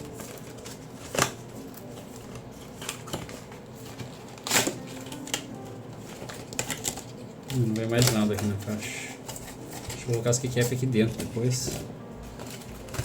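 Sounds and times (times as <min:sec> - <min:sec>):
packaging rustling scrapes: 0:00.0 - 0:13.0
quiet background music: 0:00.0 - 0:13.0.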